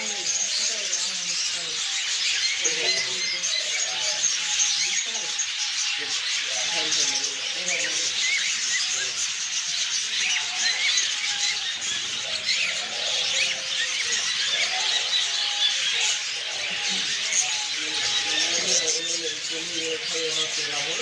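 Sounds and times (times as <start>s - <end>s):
caged birds chirping: 0.0s - 21.0s.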